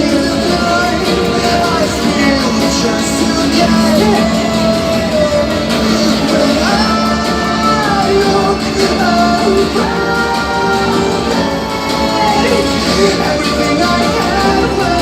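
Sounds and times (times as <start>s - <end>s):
person singing long notes: 0.0s - 15.0s
rock song over speakers: 0.0s - 15.0s.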